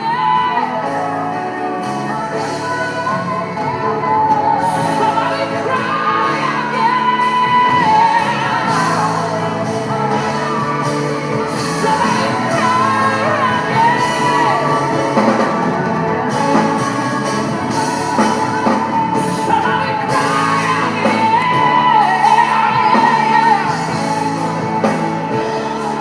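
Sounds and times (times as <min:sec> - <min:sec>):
gospel singing with band: 0:00.0 - 0:26.0.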